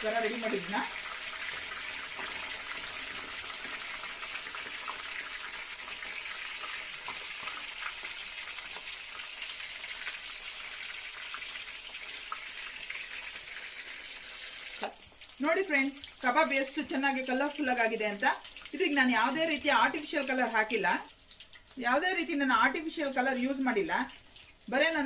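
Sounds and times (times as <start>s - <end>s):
meat deep-frying in oil: 0.0s - 25.0s.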